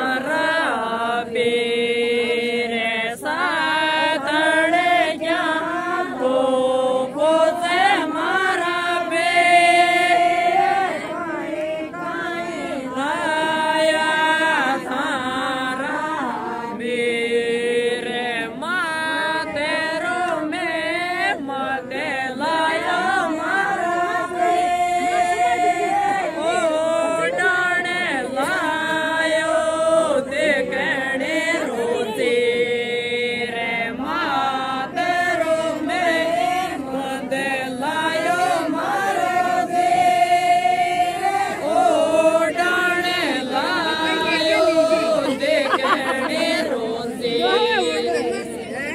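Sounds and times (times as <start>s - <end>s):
man singing unaccompanied: 0.0s - 11.4s, 12.0s - 48.6s.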